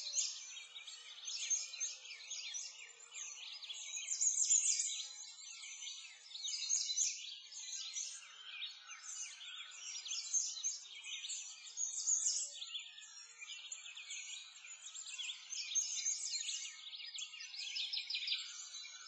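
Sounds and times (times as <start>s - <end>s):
small birds chirping and singing: 0.0s - 19.0s.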